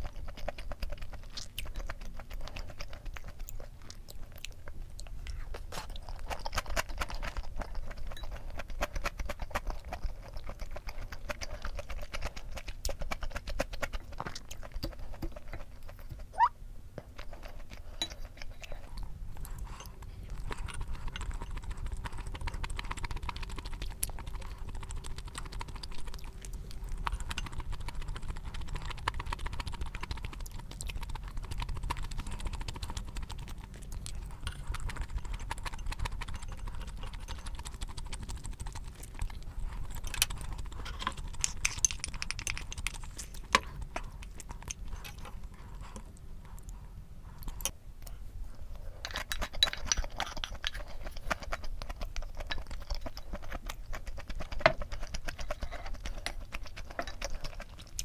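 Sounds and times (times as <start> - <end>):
chewing with wet mouth clicks: 0.0 - 58.0.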